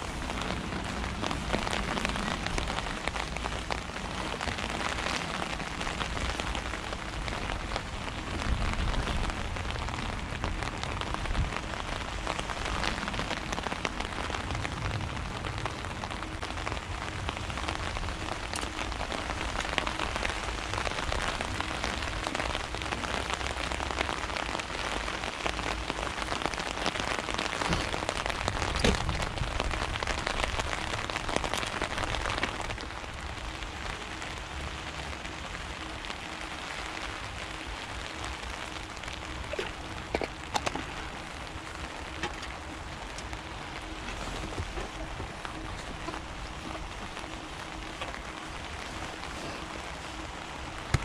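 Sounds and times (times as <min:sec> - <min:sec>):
rain pattering: 0:00.0 - 0:51.0.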